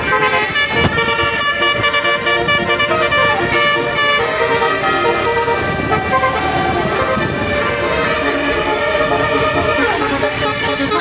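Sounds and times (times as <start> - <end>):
multi-tone air horn tune: 0.0 - 11.0
road traffic noise: 0.0 - 11.0.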